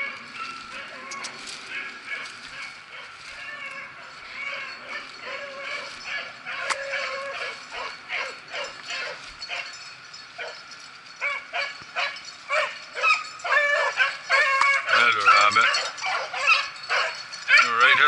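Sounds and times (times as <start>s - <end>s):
dogs baying: 0.0s - 18.0s.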